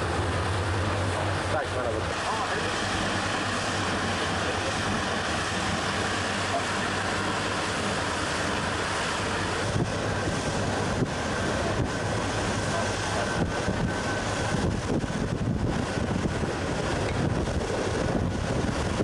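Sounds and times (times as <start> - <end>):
boat engine humming: 0.0 - 19.0
water along boat hull: 0.0 - 19.0
wind over microphone: 0.0 - 19.0.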